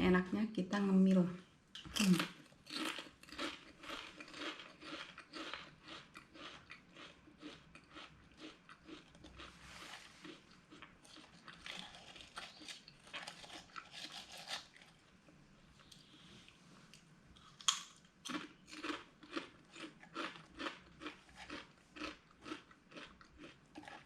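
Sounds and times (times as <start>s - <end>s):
chewing crisp snack: 1.8s - 15.0s, 16.9s - 24.0s.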